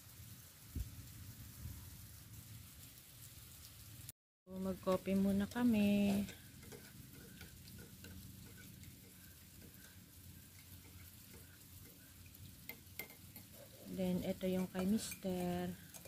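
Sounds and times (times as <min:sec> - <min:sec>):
light rain pattering: 0:00.0 - 0:16.0.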